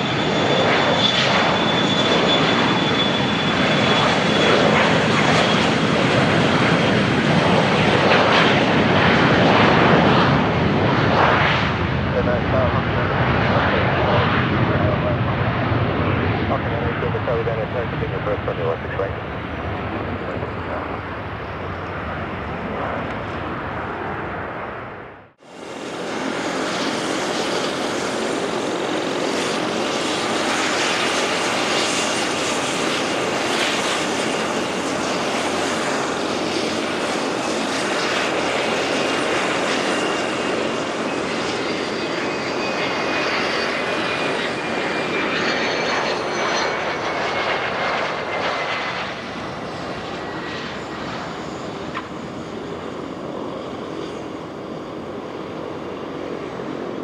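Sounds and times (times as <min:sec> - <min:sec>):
jet engines running loud: 0:00.0 - 0:57.0.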